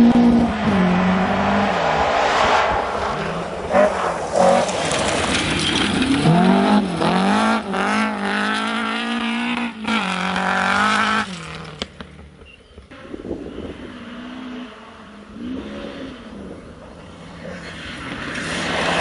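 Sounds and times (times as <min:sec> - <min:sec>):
rally car engine revving: 0:00.0 - 0:12.1, 0:12.9 - 0:19.0.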